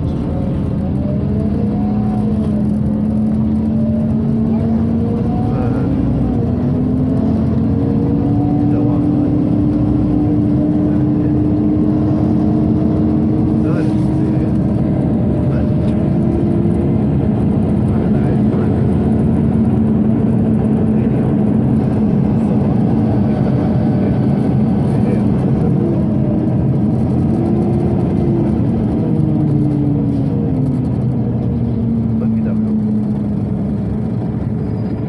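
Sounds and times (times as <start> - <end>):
bus diesel engine running: 0.0 - 35.0.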